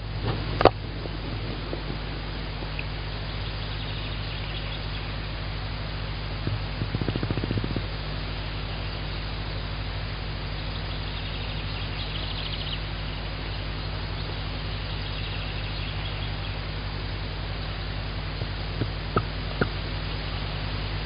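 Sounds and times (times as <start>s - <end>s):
microphone hiss and hum: 0.0s - 21.0s.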